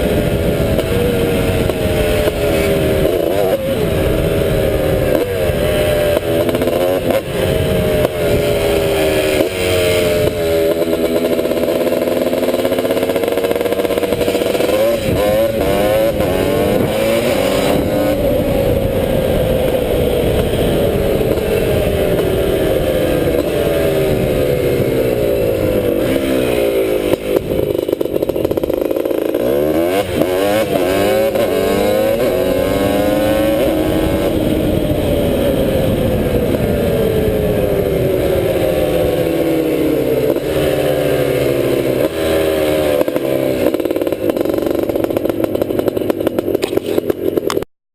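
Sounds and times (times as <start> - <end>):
two-stroke engine running hard: 0.0 - 47.7.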